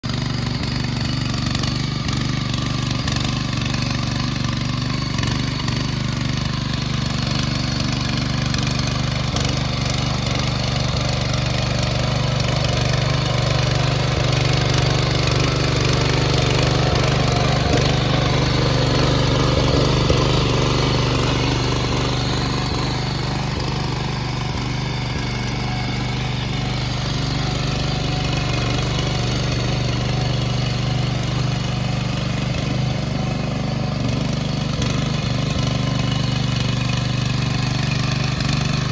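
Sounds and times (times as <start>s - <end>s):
small petrol engine running: 0.0s - 38.9s
tines churning wet soil: 0.1s - 38.9s.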